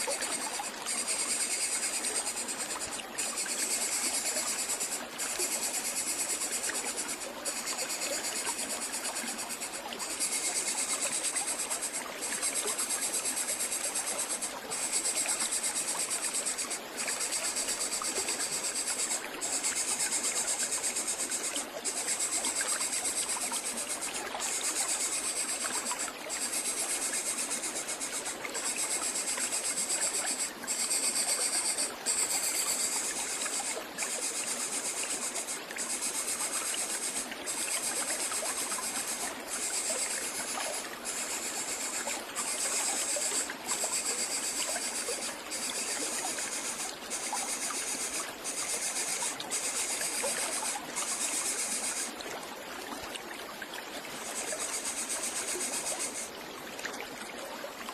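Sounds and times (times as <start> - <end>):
high insect buzz: 0.0 - 52.1.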